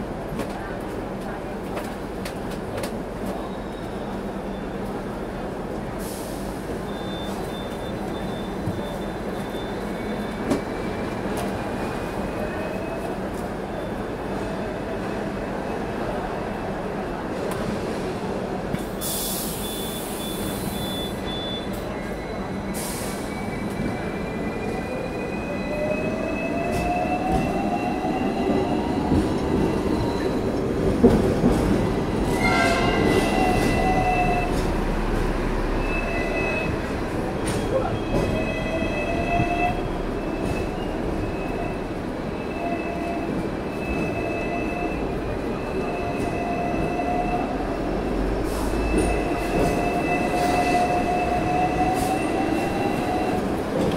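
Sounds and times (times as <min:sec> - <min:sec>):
tram rumble: 0:00.0 - 0:53.9.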